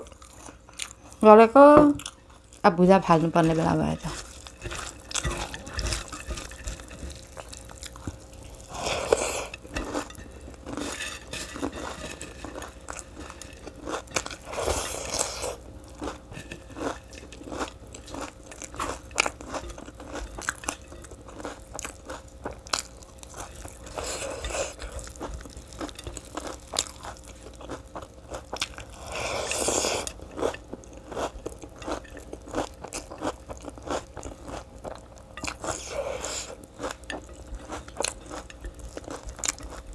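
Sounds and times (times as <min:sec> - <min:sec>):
person chewing and crunching food: 0:00.0 - 0:01.2, 0:03.4 - 0:39.9.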